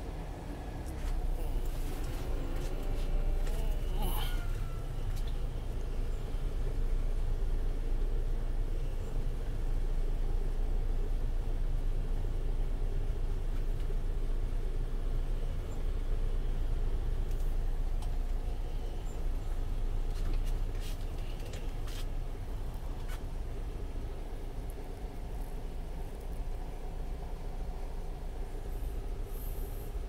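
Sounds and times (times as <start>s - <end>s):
truck diesel engine rumbling: 0.0s - 30.0s.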